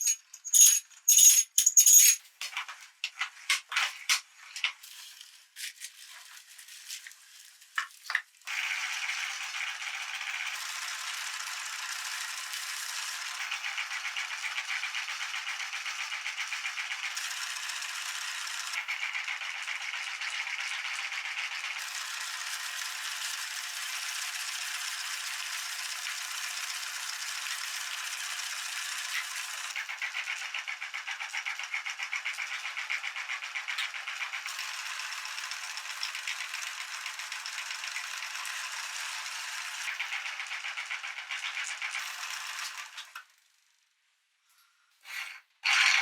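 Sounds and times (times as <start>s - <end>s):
meat grinder rattling: 0.0s - 2.2s, 3.1s - 43.3s, 45.6s - 46.0s.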